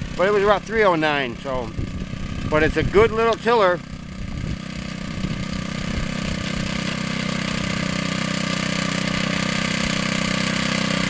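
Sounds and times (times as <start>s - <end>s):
tiller engine running: 0.0s - 11.0s
tines churning soil: 0.0s - 11.0s.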